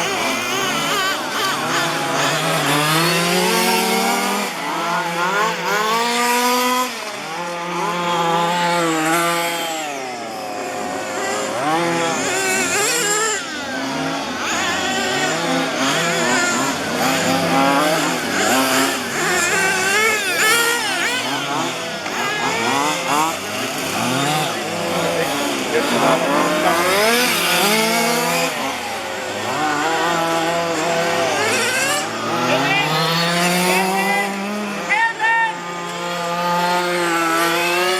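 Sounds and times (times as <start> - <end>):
small two-stroke engines revving: 0.0 - 37.9.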